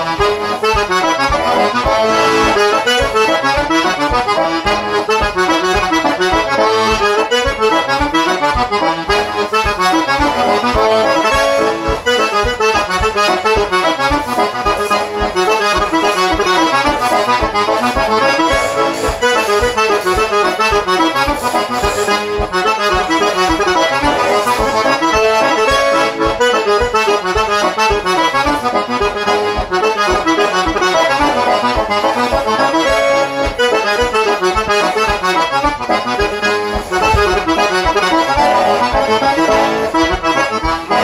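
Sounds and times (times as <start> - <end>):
button accordion folk tune: 0.0 - 41.0.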